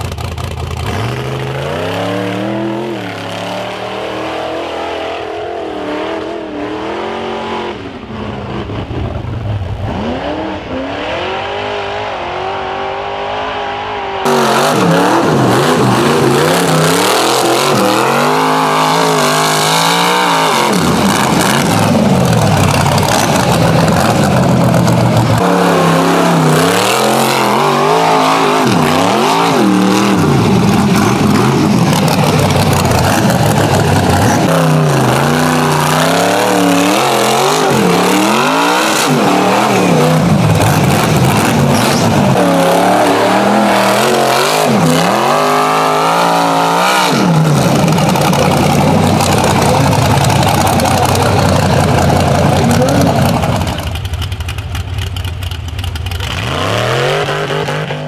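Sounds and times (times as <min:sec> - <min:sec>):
buggy engine revving hard: 0:00.0 - 0:54.2, 0:56.1 - 0:58.0.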